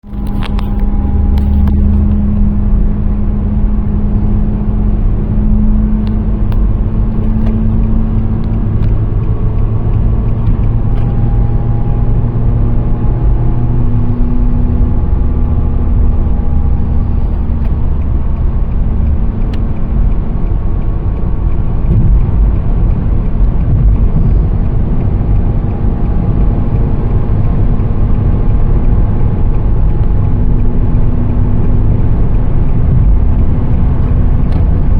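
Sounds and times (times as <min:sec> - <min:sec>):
car engine hum: 0:00.0 - 0:34.9
road rumble: 0:00.0 - 0:34.9.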